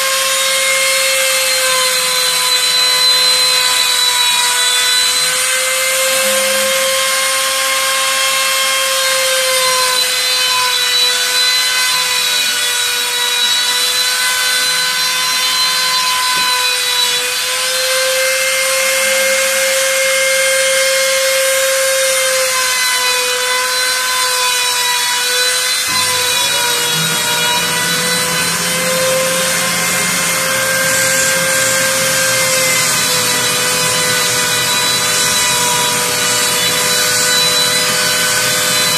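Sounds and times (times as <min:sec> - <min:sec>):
rotary tool cutting wood: 0:00.0 - 0:38.9.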